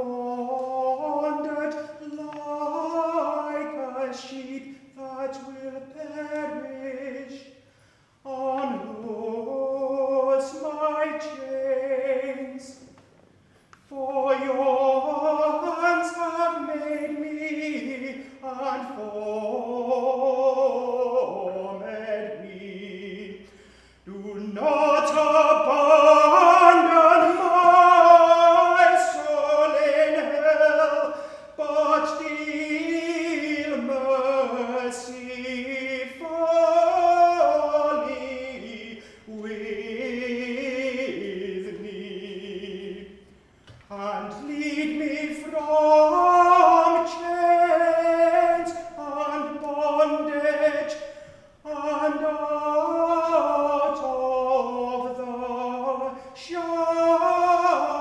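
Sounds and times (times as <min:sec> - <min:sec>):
man singing unaccompanied chant: 0:00.0 - 0:07.6, 0:08.2 - 0:12.9, 0:13.9 - 0:43.3, 0:43.9 - 0:58.0.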